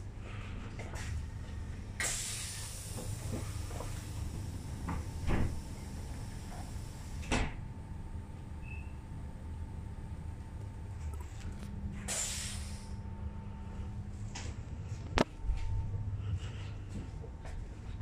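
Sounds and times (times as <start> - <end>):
train interior hum with hiss: 0.0 - 18.0.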